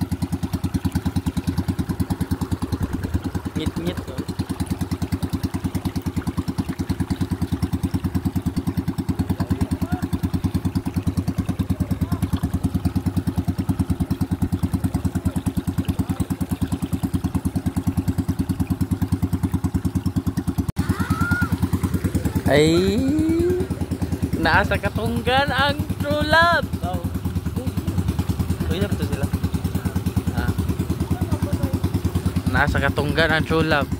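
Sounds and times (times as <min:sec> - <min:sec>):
small boat engine chugging: 0:00.0 - 0:33.9.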